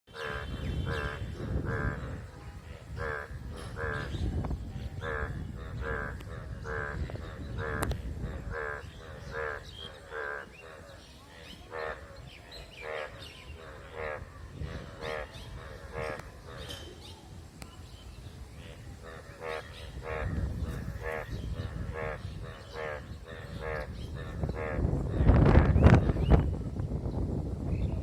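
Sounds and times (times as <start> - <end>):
frog croaking: 0.1 - 16.9, 18.4 - 25.5.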